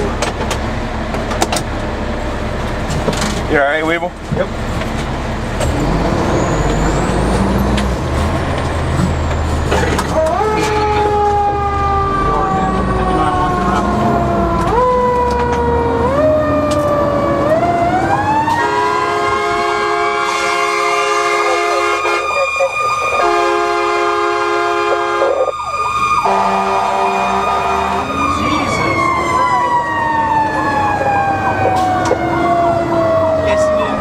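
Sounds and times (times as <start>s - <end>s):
fire engine running: 0.0s - 34.0s
fire engine siren: 5.6s - 34.0s.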